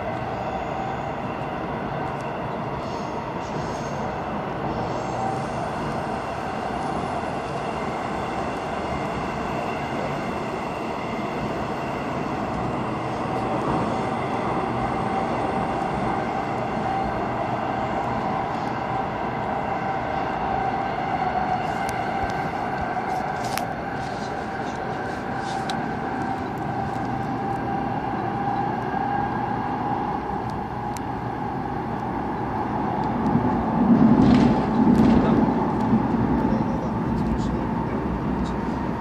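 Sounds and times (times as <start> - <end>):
electric train whine: 0.0 - 39.0
train wheels rumbling on rail: 0.0 - 39.0.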